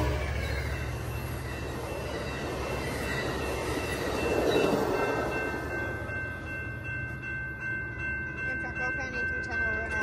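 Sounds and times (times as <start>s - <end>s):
train rushing past: 0.0s - 9.9s.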